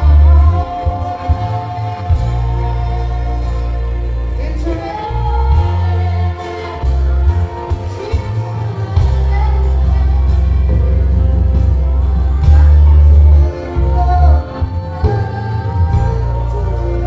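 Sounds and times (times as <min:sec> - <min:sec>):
worship band playing with singing: 0:00.0 - 0:17.0.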